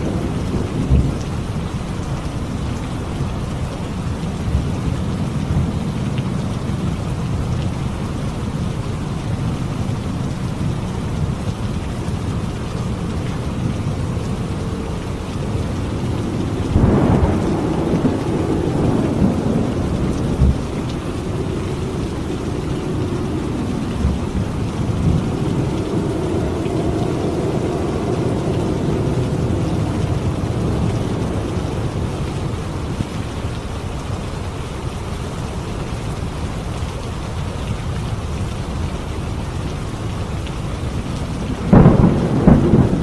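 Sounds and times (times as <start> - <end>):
thunder rumbling: 0.0 - 7.4, 8.6 - 33.9, 40.9 - 43.0
heavy rainfall: 0.0 - 43.0.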